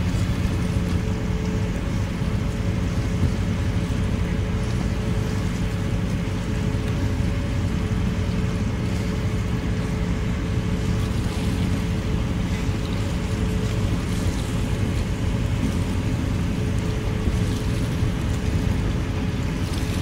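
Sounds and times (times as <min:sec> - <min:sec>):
boat engine drone: 0:00.0 - 0:20.0
water rushing: 0:00.0 - 0:20.0
wind: 0:00.0 - 0:20.0.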